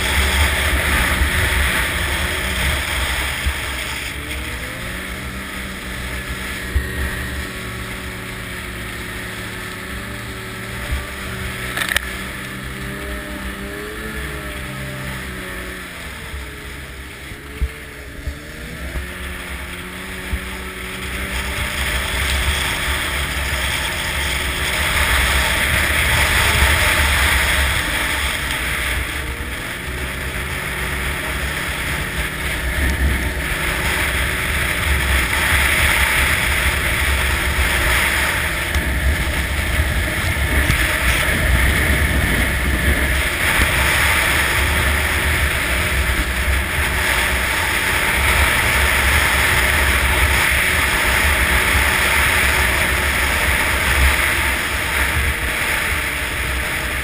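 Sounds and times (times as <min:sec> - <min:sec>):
snowmobile engine running: 0:00.0 - 0:57.0
wind buffeting microphone: 0:00.0 - 0:57.0.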